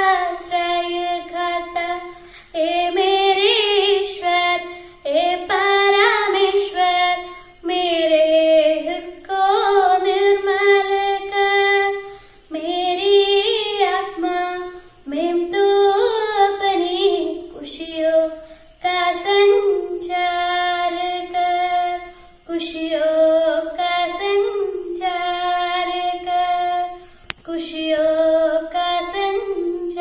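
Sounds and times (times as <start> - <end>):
girl singing unaccompanied: 0.0 - 30.0.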